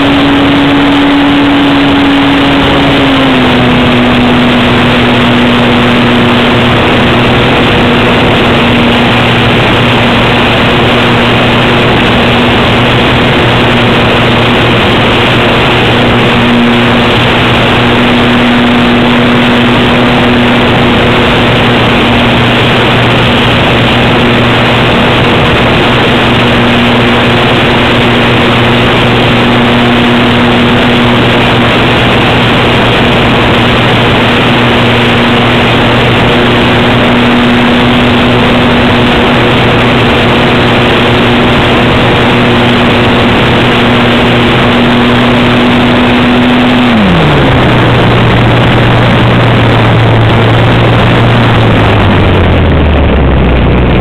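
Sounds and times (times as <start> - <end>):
model plane propeller drone: 0.0 - 54.0
rushing air: 0.0 - 54.0.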